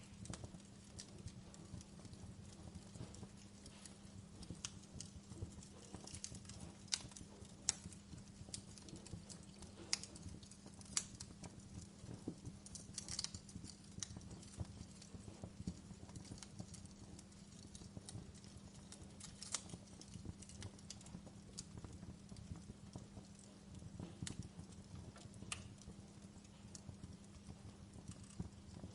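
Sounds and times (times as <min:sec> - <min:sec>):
fire crackling and popping: 0:00.0 - 0:28.9.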